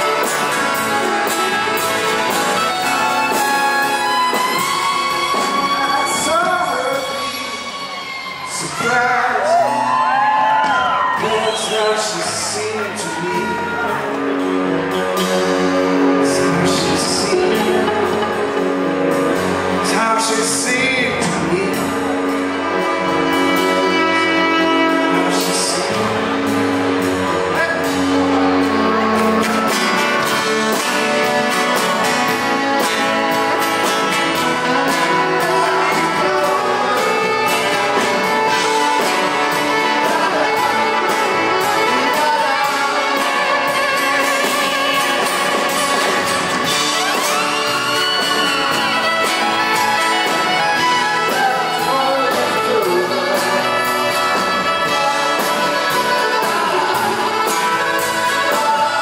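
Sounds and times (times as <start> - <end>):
acoustic guitar strumming: 0.0 - 8.7, 13.8 - 59.0
bass: 0.0 - 59.0
electric guitar: 0.0 - 59.0.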